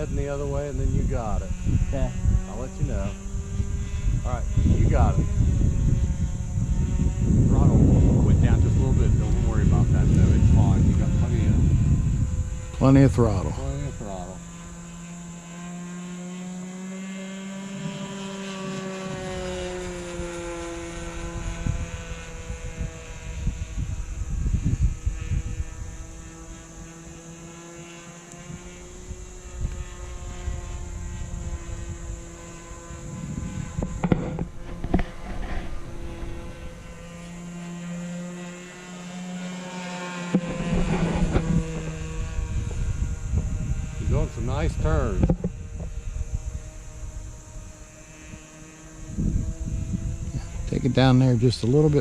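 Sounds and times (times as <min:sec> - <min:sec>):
wind rumble on microphone: 0:00.0 - 0:16.2, 0:16.9 - 0:52.0
model plane propeller droning: 0:00.0 - 0:52.0.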